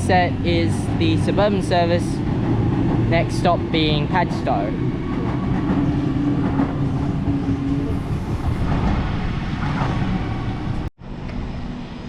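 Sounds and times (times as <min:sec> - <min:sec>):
electric trains departing: 0:00.0 - 0:12.0.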